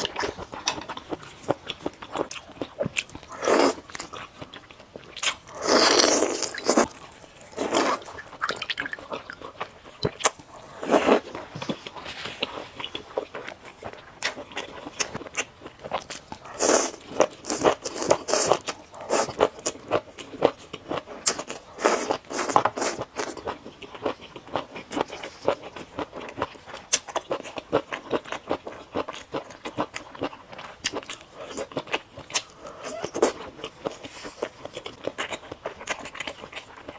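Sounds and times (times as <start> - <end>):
wet chewing with mouth clicks: 0.0 - 36.9.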